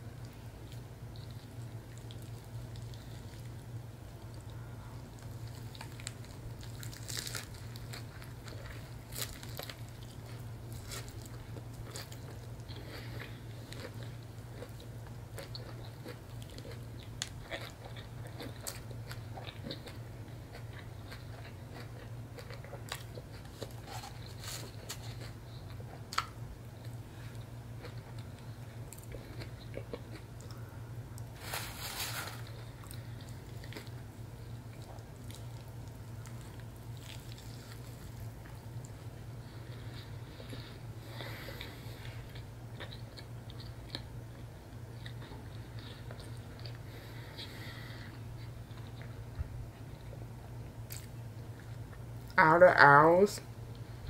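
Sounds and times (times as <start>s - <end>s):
low steady hum: 0.0s - 54.0s
person biting and chewing food: 4.2s - 49.2s, 50.8s - 52.0s.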